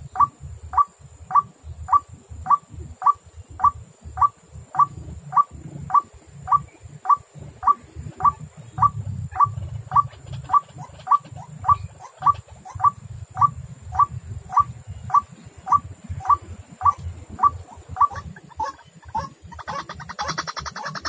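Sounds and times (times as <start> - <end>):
waterhen call: 0.2 - 21.0.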